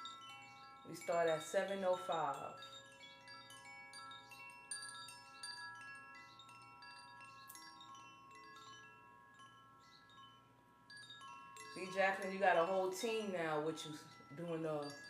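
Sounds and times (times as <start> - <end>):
faint wind chimes ringing: 0.0 - 15.0.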